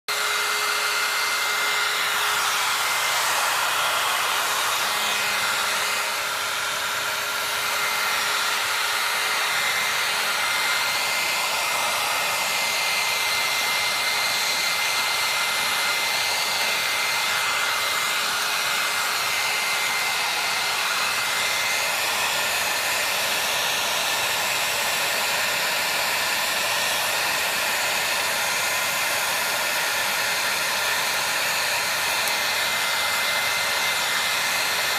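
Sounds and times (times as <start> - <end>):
electric blower rushing: 0.0 - 34.9.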